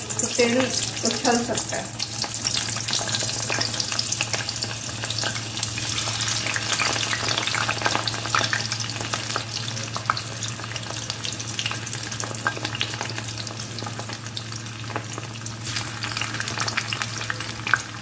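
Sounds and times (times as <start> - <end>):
hot oil sizzling and crackling: 0.0 - 18.0.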